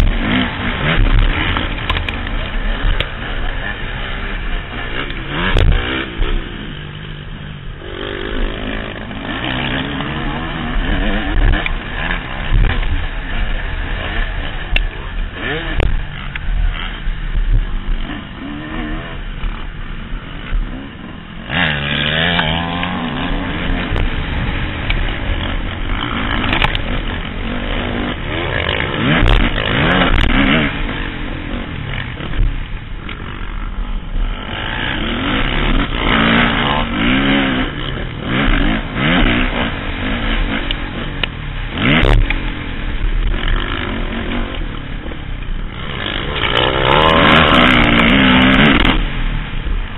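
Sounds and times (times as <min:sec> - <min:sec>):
motocross bike engine revving: 0:00.0 - 0:49.9.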